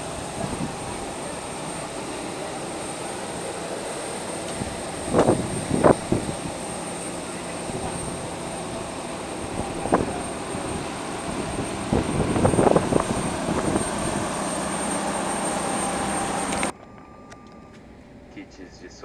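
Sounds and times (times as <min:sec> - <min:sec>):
jet aircraft whine and rumble: 0:00.0 - 0:19.0.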